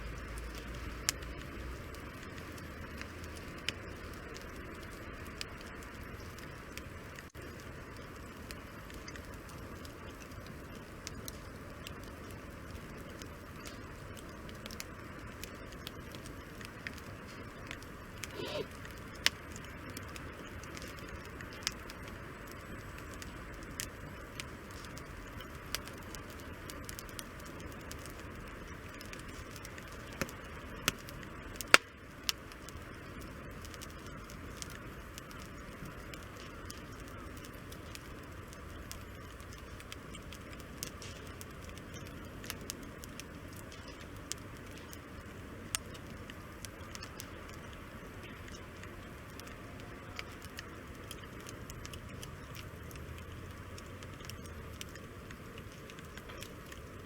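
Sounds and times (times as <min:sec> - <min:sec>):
sharp fire pops: 0:00.0 - 0:57.0
wood fire crackling: 0:00.0 - 0:57.0.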